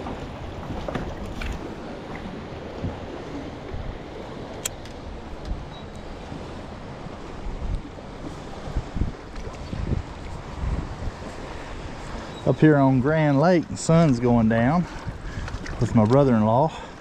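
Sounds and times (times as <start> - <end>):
wind buffeting microphone: 0.0 - 16.7
water lapping against boat hull: 0.0 - 17.0.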